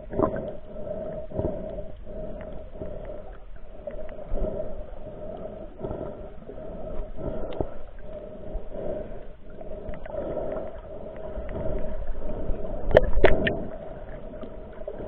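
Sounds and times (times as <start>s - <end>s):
underwater water movement: 0.0s - 15.0s.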